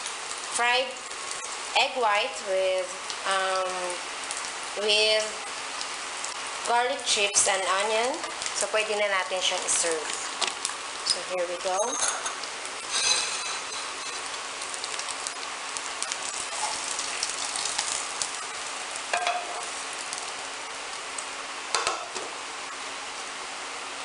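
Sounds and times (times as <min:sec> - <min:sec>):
hot oil sizzling in a pan: 0:00.0 - 0:24.0.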